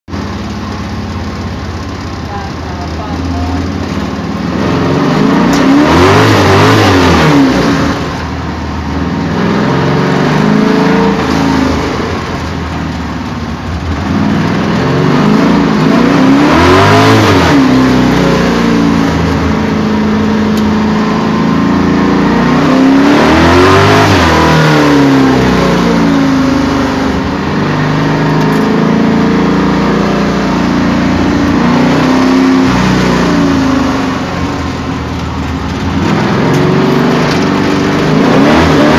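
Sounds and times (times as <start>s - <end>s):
engine revving: 0.1s - 38.9s.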